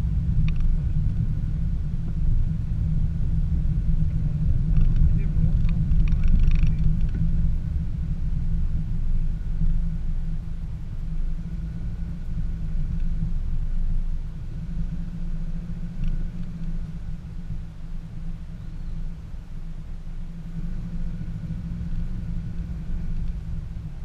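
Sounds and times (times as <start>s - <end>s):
car engine and tyres droning: 0.0s - 24.0s.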